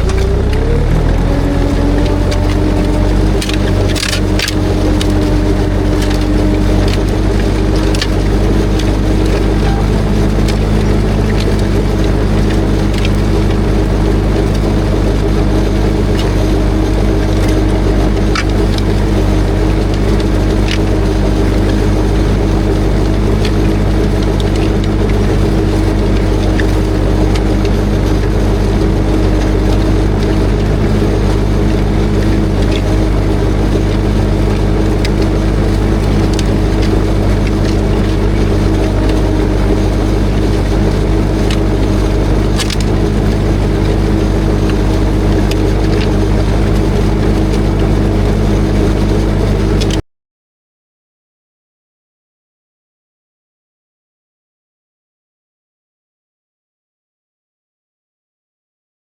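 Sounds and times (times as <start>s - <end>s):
diesel engine running: 0.0s - 50.0s
machinery clicks and knocks: 0.0s - 50.0s.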